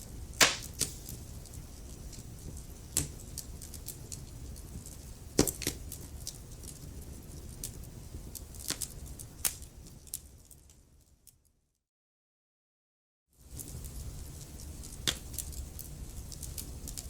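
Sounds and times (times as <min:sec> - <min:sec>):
low rumble of burning logs: 0:00.0 - 0:11.4, 0:13.4 - 0:17.0
wood fire crackling and popping: 0:00.2 - 0:10.8, 0:13.5 - 0:17.0.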